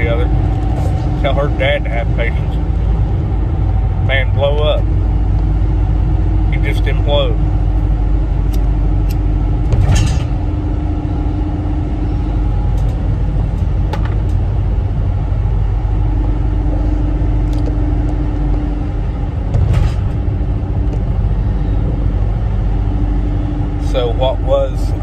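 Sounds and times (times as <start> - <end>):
van engine idling: 0.0 - 25.0.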